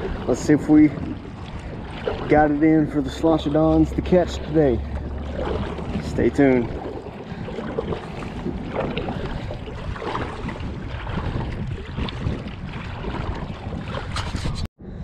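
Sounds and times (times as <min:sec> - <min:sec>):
paddle splashing in water: 0:00.0 - 0:14.7
water washing along hull: 0:00.0 - 0:14.7.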